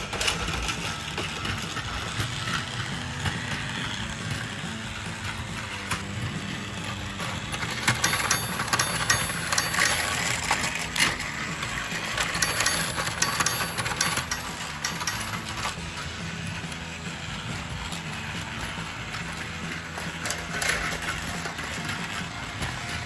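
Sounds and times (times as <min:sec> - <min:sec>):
toy vehicle motor hum: 0:00.0 - 0:23.0.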